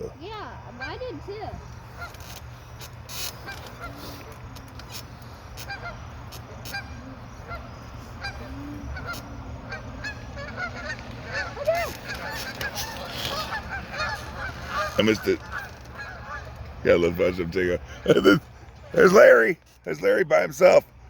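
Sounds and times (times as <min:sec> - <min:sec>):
geese honking: 0:00.0 - 0:20.8.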